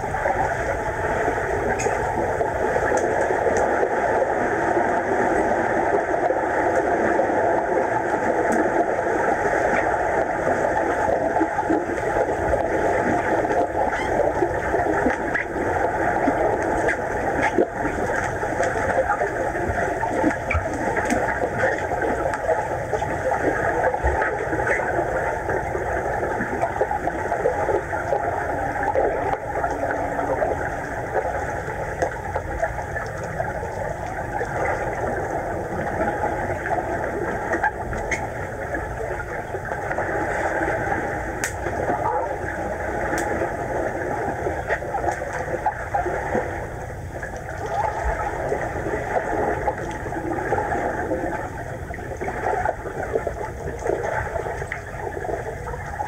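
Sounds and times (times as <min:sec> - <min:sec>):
faint underwater clicks and knocks: 0:00.0 - 0:04.0, 0:08.3 - 0:56.0.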